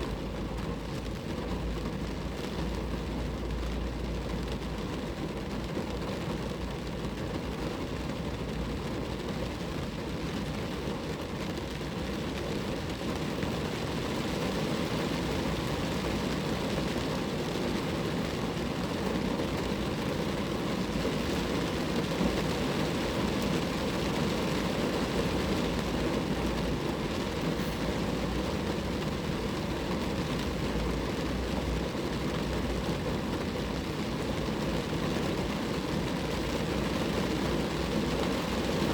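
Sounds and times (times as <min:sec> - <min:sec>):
rain falling on a car: 0:00.0 - 0:38.9.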